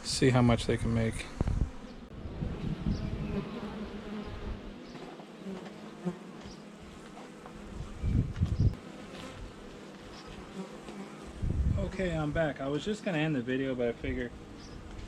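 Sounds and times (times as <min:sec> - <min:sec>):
honey bees buzzing: 0:00.3 - 0:15.0.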